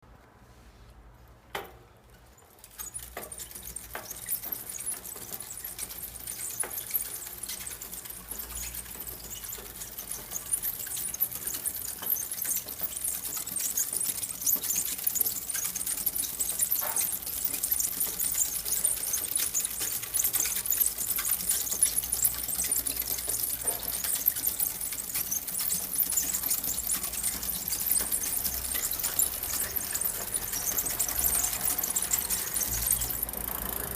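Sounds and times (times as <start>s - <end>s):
bicycle chain squeaking: 2.0s - 33.9s
sharp chain clicks: 2.3s - 33.9s.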